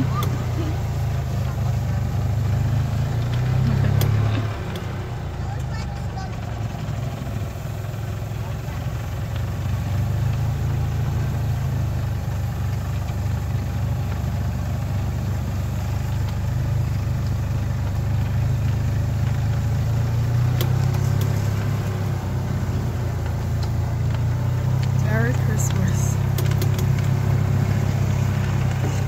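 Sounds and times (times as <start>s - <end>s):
small vehicle engine droning: 0.0s - 29.0s.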